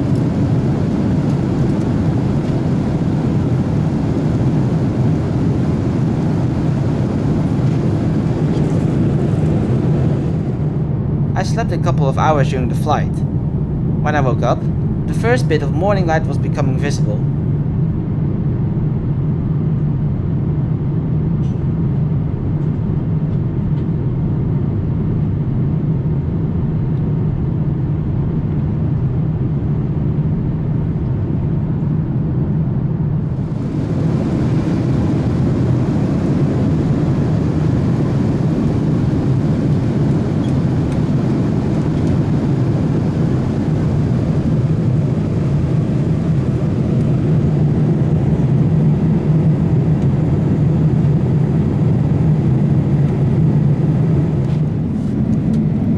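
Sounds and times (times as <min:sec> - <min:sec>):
airplane cabin drone: 0:00.0 - 0:55.9.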